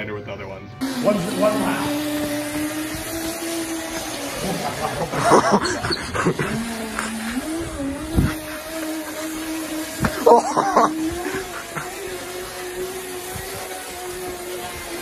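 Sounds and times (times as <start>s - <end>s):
electric motor whine: 0.8s - 15.0s.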